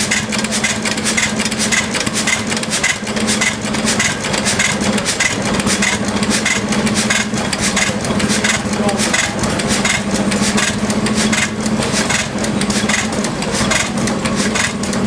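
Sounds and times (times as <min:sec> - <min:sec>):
regular mechanical clacking: 0:00.0 - 0:15.0
stationary engine running: 0:00.0 - 0:15.0.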